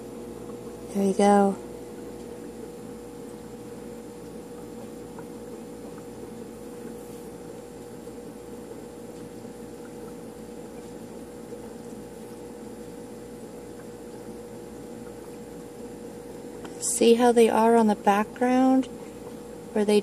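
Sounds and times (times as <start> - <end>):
aquarium filter humming: 0.0 - 20.0.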